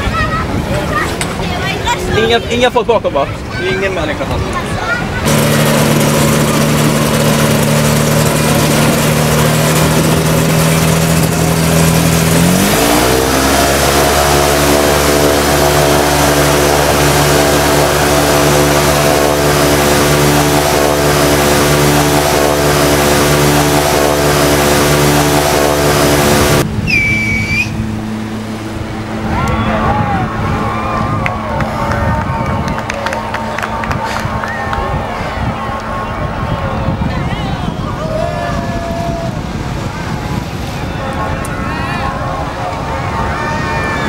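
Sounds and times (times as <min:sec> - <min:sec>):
flying boat engine revving: 0:04.2 - 0:44.0.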